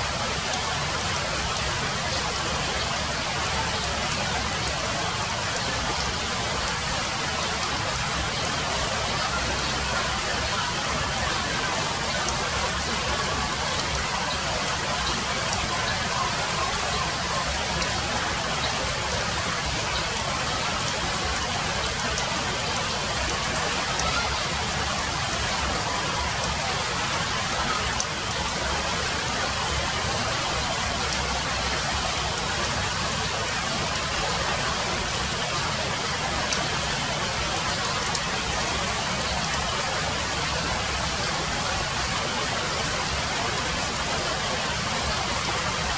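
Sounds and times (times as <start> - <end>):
light rain on leaves: 0.0 - 45.9.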